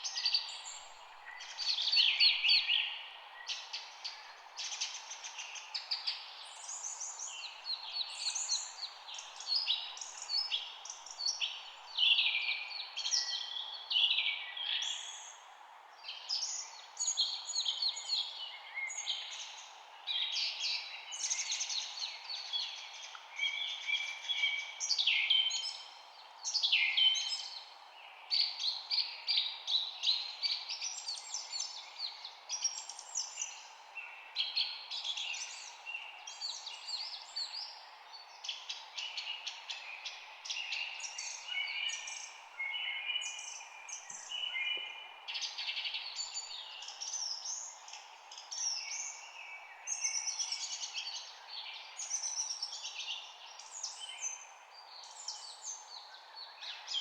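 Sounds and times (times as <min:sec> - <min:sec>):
songbirds chorus: 0:00.0 - 0:57.0.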